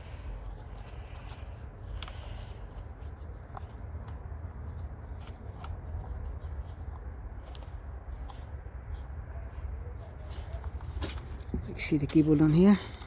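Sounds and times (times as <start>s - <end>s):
rustling handling noise: 0.0s - 13.0s.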